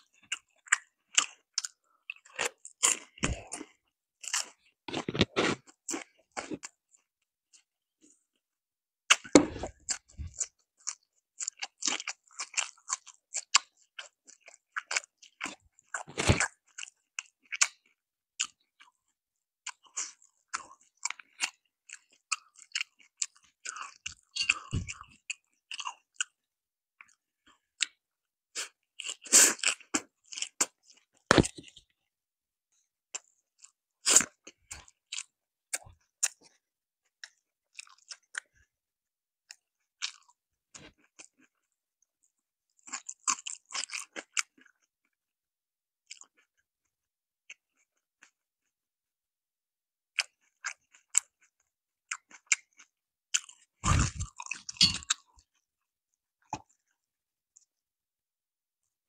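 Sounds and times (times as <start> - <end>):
chewing and crunching food: 0.0 - 48.9, 50.0 - 57.9.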